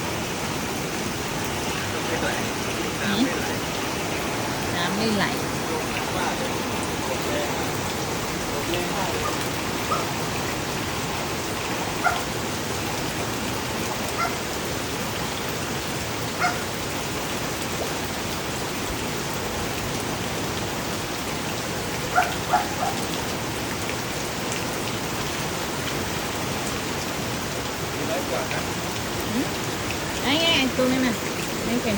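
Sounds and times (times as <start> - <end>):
rain falling on a rooftop: 0.0 - 31.9.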